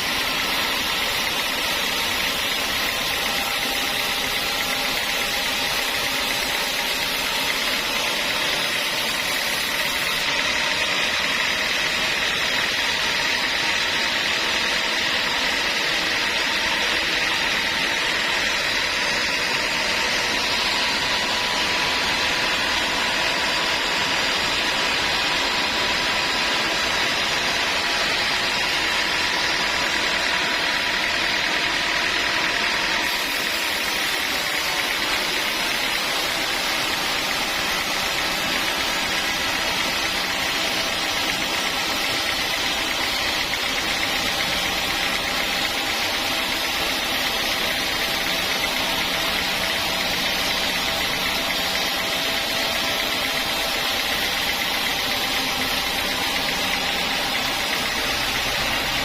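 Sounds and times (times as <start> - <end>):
sawmill saw whining: 0.0 - 59.0.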